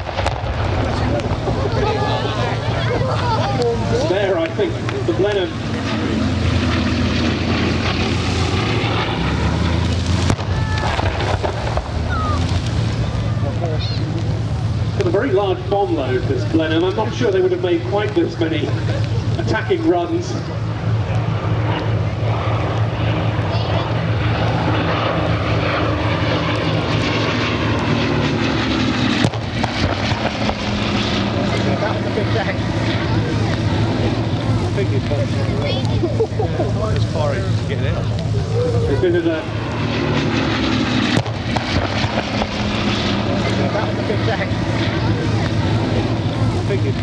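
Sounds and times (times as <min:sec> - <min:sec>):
radial aircraft engines running: 0:00.0 - 0:47.0.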